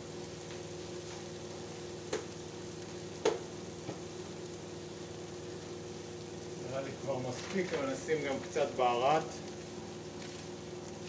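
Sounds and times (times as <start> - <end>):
food sizzling in oil: 0.0 - 11.0
steady hum: 0.0 - 11.0.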